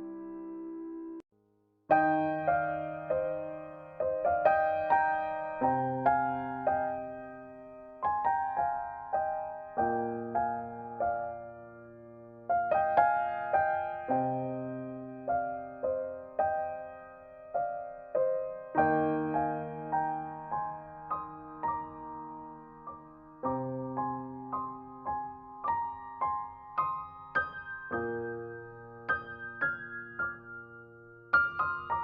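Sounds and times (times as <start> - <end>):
gentle piano music: 0.0 - 1.2, 1.9 - 32.0.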